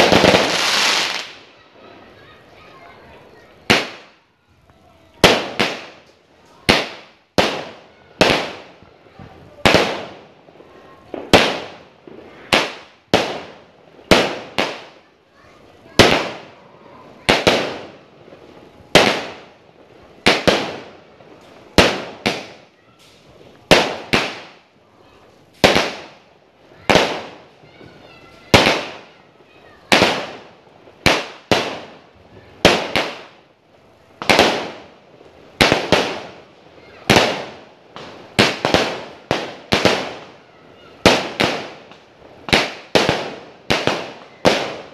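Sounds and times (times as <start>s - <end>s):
fireworks repeater bangs: 0.0s - 4.3s, 5.0s - 44.9s.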